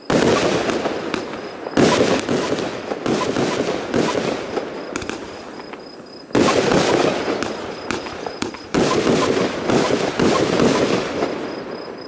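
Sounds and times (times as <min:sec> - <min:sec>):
firework crackling: 0:00.0 - 0:11.7
firework bursts: 0:00.0 - 0:12.0.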